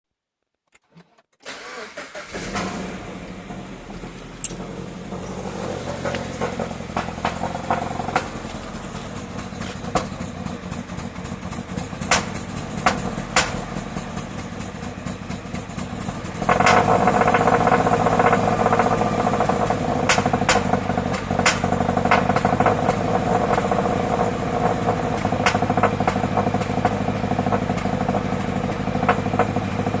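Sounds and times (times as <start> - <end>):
car engine misfiring: 0.8 - 30.0.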